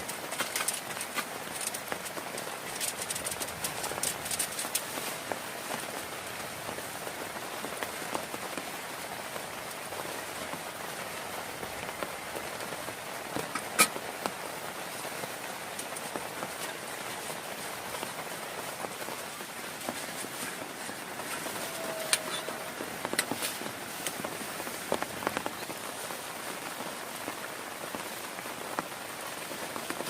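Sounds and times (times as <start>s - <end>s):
heavy rain pattering: 0.0s - 30.0s.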